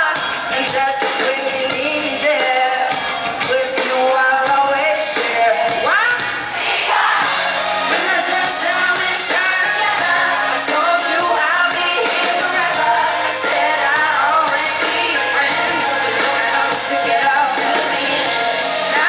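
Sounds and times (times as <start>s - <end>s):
woman singing pop song: 0.0s - 6.5s, 7.8s - 19.0s
live rock band playing: 0.0s - 6.6s, 7.2s - 19.0s.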